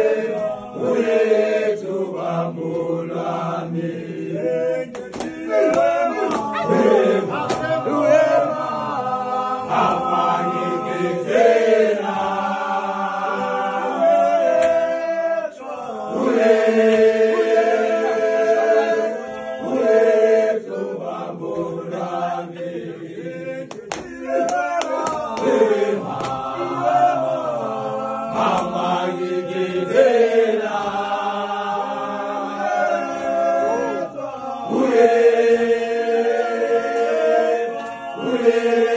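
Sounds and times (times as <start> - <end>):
men singing a chant in harmony: 0.0 - 38.9.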